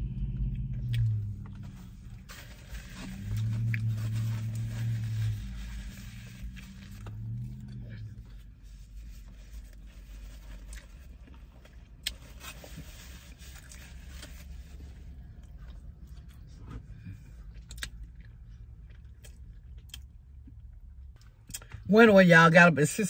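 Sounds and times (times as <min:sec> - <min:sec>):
low steady hum: 0:00.0 - 0:23.0
person chewing a sandwich: 0:00.3 - 0:05.0, 0:06.0 - 0:21.8.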